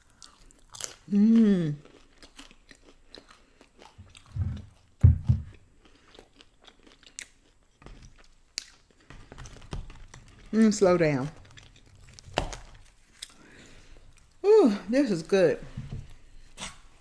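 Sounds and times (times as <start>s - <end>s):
chewing crisp pizza: 0.0s - 10.5s, 11.3s - 14.4s.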